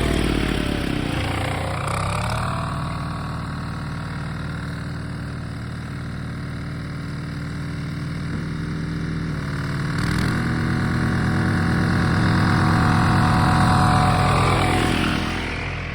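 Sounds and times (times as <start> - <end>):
diesel tiller engine knocking: 0.0 - 15.8.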